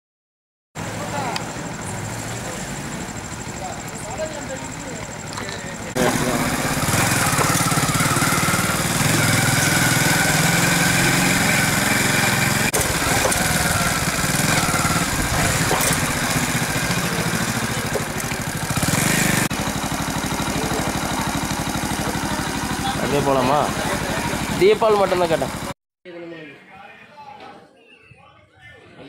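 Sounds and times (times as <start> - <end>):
engine idling with low throb: 0.8 - 25.7.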